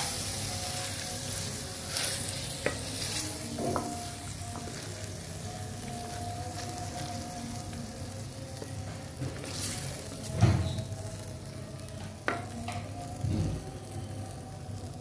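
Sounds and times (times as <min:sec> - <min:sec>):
food sizzling in a clay pot: 0:00.0 - 0:15.0.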